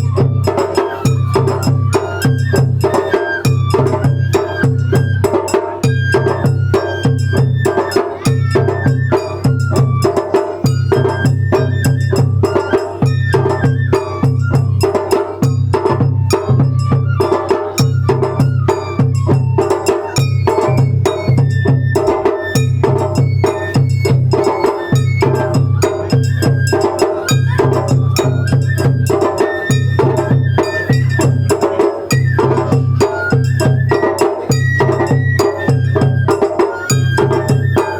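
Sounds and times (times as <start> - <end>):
high bamboo flute melody: 0.0 - 37.9
taiko drums beating: 0.0 - 37.9.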